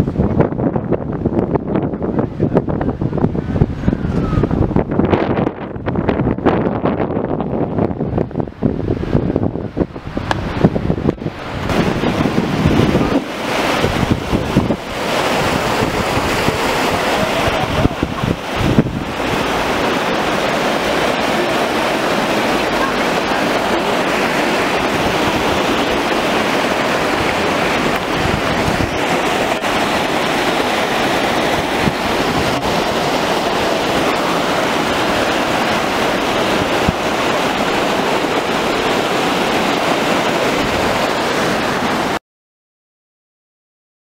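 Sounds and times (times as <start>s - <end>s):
floodwater rushing: 0.0s - 42.2s.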